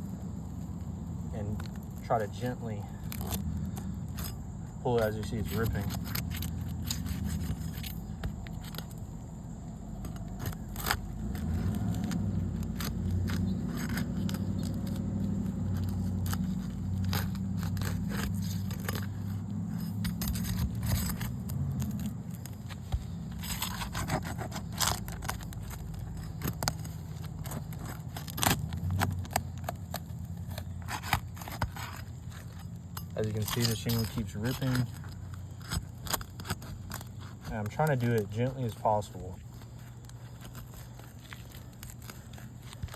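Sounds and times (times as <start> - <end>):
low steady hum: 0.0 - 42.9
roof shingle tearing: 0.0 - 42.9
scrapes and crackles: 0.0 - 42.9.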